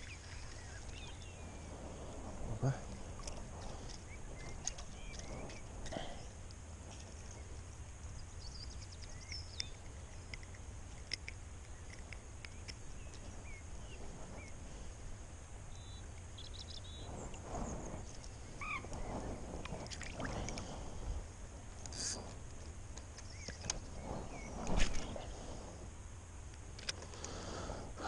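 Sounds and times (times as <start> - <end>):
small birds chirping: 0.0 - 15.0, 15.7 - 20.8, 23.1 - 25.6
wind on microphone: 0.0 - 26.0.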